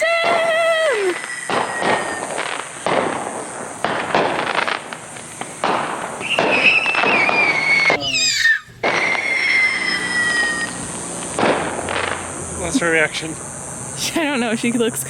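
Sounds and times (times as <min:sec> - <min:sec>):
firework whistles falling: 0:00.0 - 0:14.9
fireworks bangs and crackles: 0:00.0 - 0:15.0.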